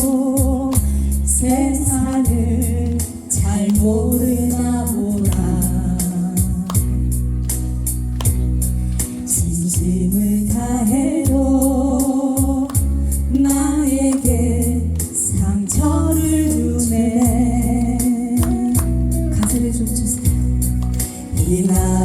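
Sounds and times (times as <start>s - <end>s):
slow ballad backing track: 0.0s - 22.0s.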